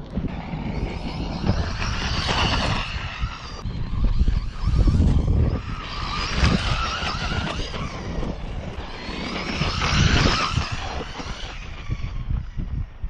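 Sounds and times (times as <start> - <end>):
rc truck electric motor whining: 0.0 - 13.0.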